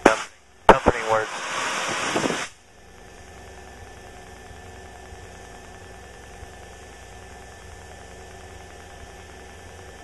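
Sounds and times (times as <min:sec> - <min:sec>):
light airplane engine drone: 0:00.0 - 0:10.0.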